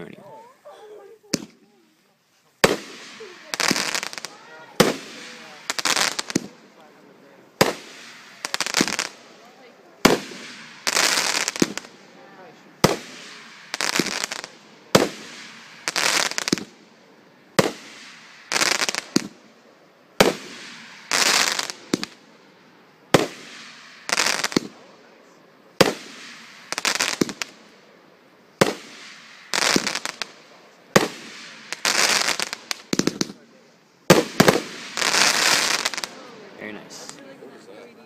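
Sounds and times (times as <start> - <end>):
firework crackling: 1.0 - 37.3
firework reports: 2.4 - 38.0.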